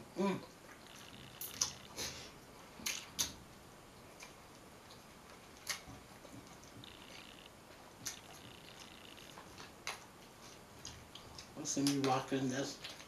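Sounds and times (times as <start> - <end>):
eating clicks and smacks: 0.4 - 2.2, 2.8 - 3.4, 4.2 - 13.0.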